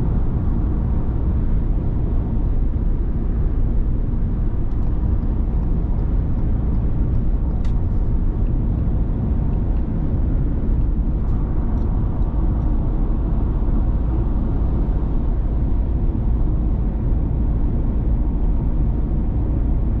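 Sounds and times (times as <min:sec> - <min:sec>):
diesel van engine rumble: 0:00.0 - 0:20.0.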